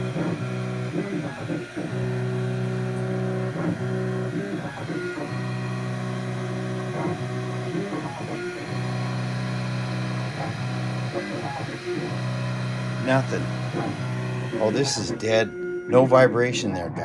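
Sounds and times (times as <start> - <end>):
machine motor humming: 0.0 - 16.3.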